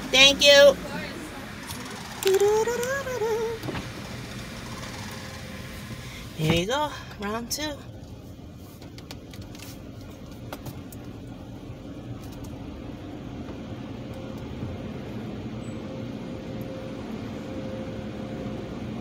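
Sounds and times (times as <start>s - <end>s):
car engine idling: 0.0s - 17.8s.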